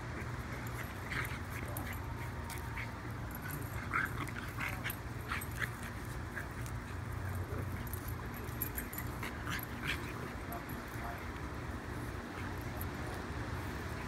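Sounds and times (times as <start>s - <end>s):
high-pitched dog noises: 0.0s - 11.4s.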